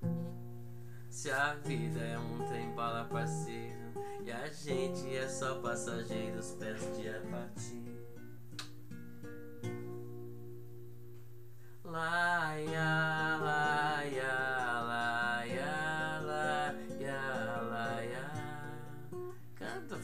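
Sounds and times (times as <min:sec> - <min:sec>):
acoustic guitar chord: 0:00.0 - 0:20.0.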